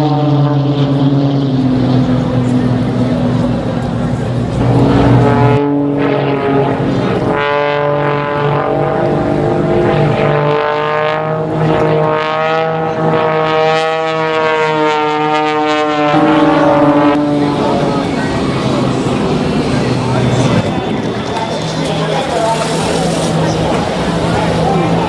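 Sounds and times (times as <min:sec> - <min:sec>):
propeller aircraft engine droning: 0:00.0 - 0:25.0.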